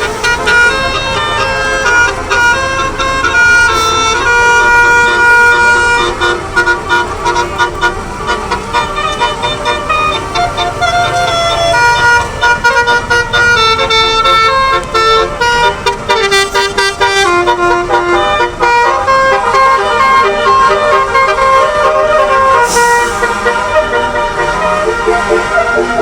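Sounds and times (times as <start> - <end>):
multi-tone air horn playing tune: 0.0 - 26.0.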